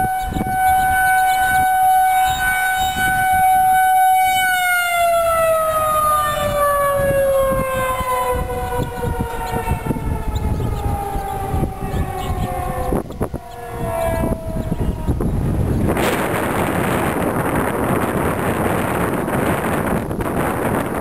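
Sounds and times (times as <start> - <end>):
warning siren winding down: 0.0 - 21.0
wind buffeting microphone: 0.0 - 21.0.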